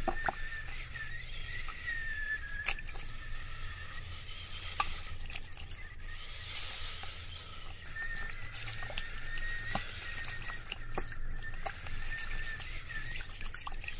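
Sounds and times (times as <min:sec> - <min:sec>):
small drips and clicks: 0:00.0 - 0:03.4, 0:04.5 - 0:13.9
faint high steady tone: 0:00.0 - 0:13.9
low steady hum: 0:00.0 - 0:13.9
water trickling: 0:00.0 - 0:13.9.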